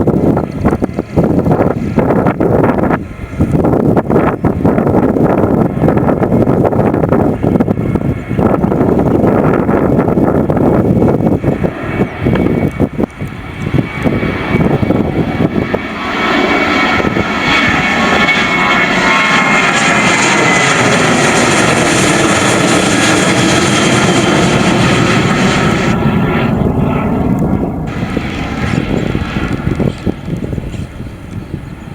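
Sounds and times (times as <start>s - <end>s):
jet engines roaring at takeoff: 0.0s - 31.9s.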